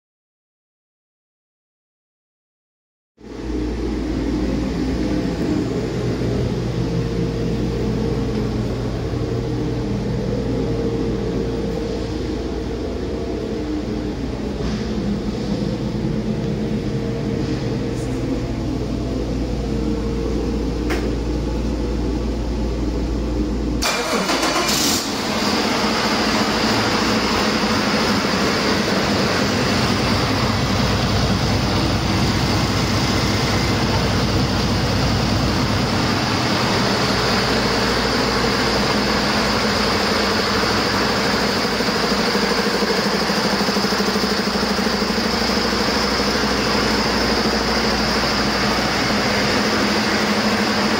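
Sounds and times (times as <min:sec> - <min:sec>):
diesel engine running: 0:03.2 - 0:50.9
high engine whine: 0:03.2 - 0:50.9.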